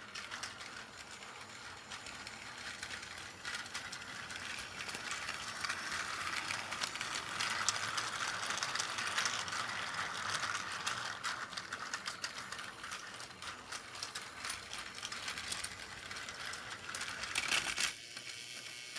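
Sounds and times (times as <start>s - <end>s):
toy train motor whirring: 0.0s - 18.9s
toy train wheels clattering: 0.0s - 18.9s.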